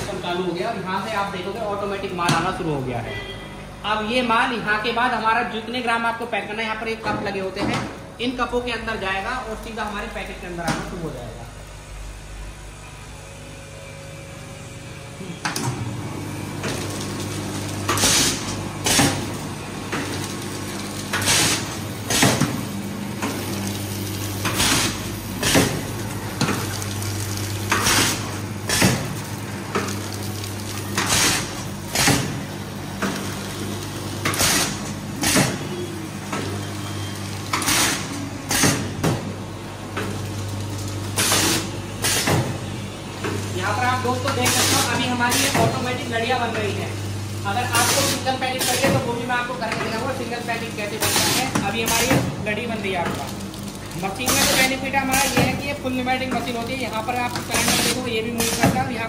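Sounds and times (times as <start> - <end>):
packing machine humming: 0.0 - 59.0.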